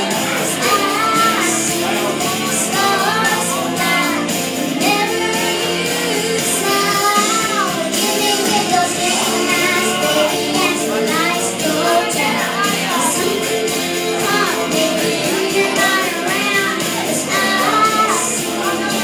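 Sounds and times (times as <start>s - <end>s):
girl singing karaoke: 0.0s - 19.0s
recorded backing track: 0.0s - 19.0s.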